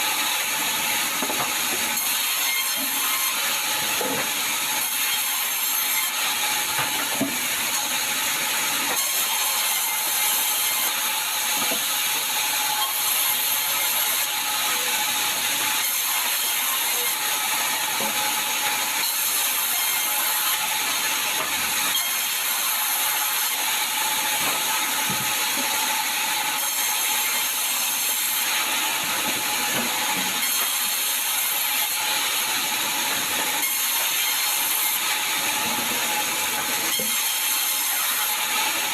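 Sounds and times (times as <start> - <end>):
sawmill machinery sawing timber: 0.0 - 38.9.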